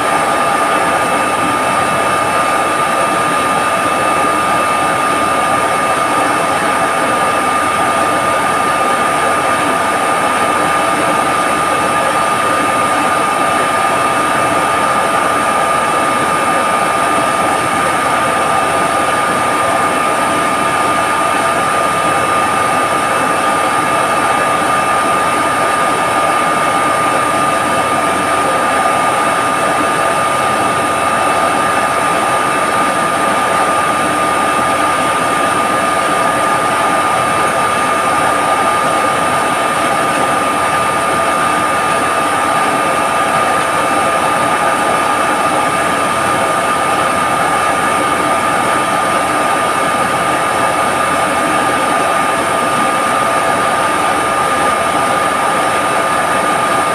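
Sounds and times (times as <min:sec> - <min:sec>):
high machine whine: 0:00.0 - 0:56.9
industrial machinery drone: 0:00.0 - 0:56.9.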